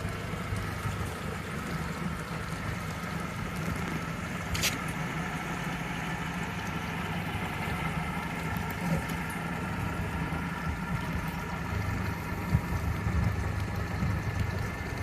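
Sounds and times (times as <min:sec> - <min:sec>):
outboard engine idling: 0:00.0 - 0:15.0.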